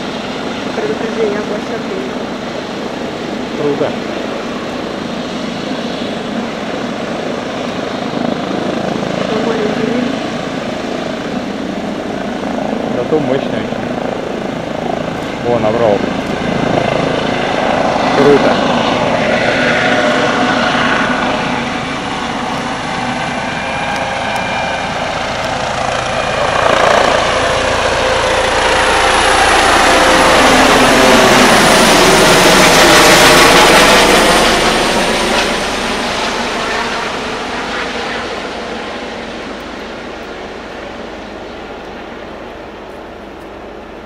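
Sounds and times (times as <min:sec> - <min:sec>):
helicopter rotors and turbine: 0:00.0 - 0:44.0.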